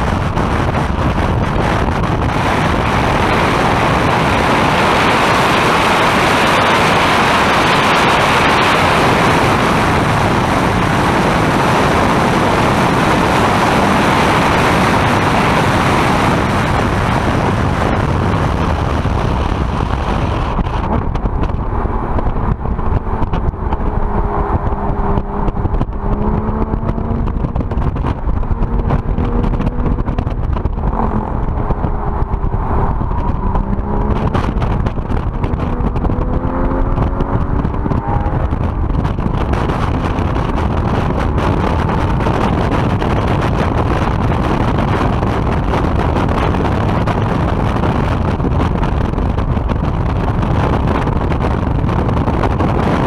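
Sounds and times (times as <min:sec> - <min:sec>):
car engine: 0:00.0 - 0:53.0
heavy wind rush: 0:00.0 - 0:53.0.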